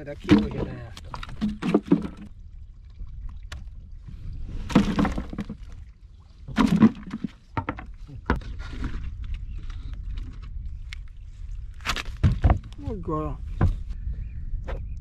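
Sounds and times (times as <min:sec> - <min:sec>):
water rumbling against hull: 0:00.0 - 0:15.0.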